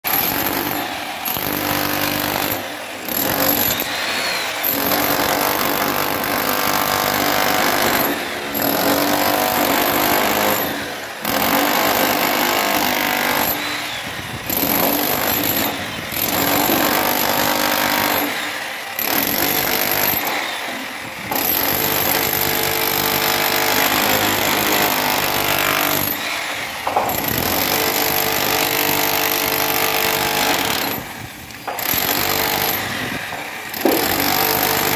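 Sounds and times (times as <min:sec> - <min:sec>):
demolition hammer chiselling concrete: 0:00.0 - 0:34.9.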